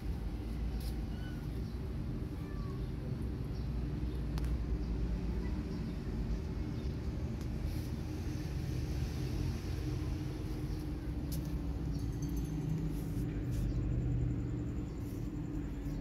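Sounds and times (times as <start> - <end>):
low vehicle rumble: 0.0 - 16.0.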